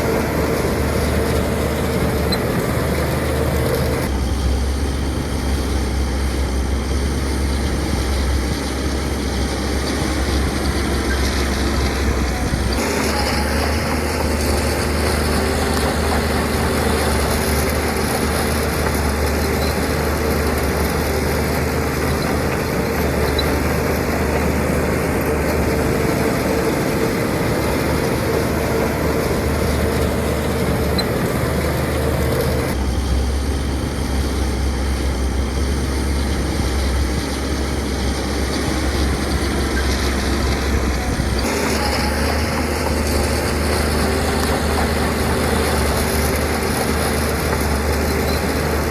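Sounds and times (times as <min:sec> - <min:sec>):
earthmoving machinery engine drone: 0:00.0 - 0:48.9.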